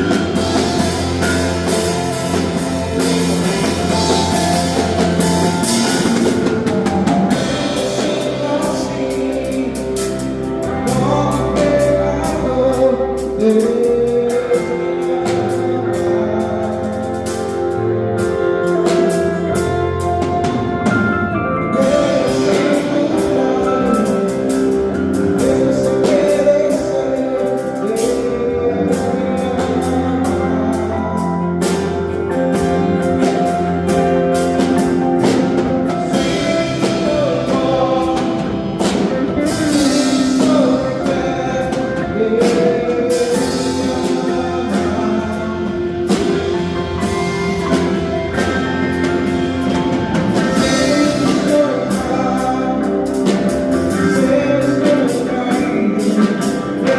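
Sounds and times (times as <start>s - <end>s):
drum kit beat: 0.0s - 56.9s
person singing: 0.0s - 56.9s
worship band playing: 0.0s - 56.9s.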